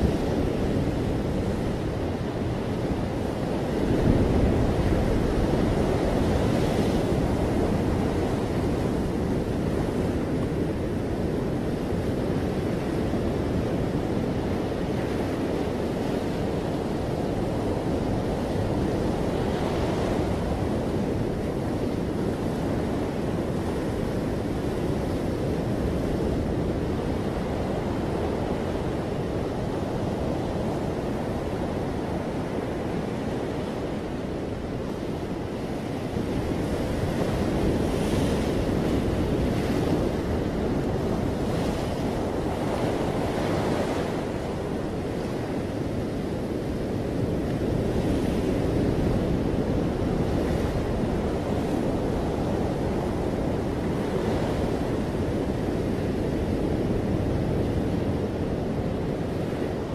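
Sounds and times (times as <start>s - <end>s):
ocean surf breaking on a beach: 0.0s - 59.9s.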